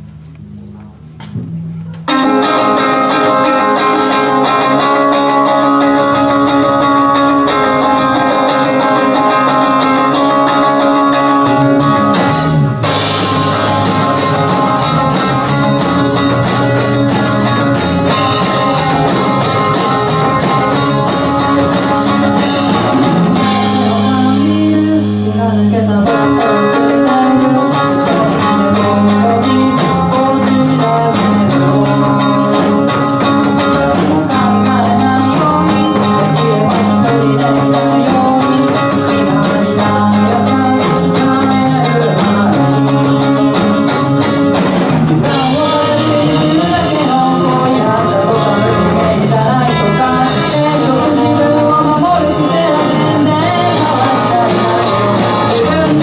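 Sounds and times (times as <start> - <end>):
electric guitars: 0.0 - 56.0
drum kit: 0.6 - 56.0.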